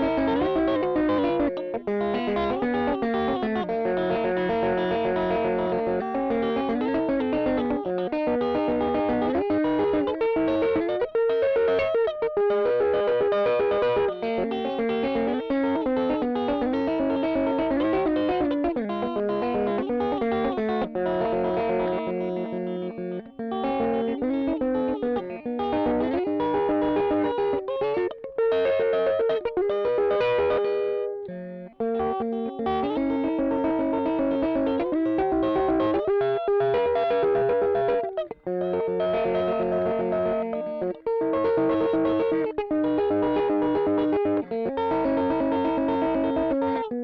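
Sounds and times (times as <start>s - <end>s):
electric guitar strumming chords: 0.0s - 47.0s.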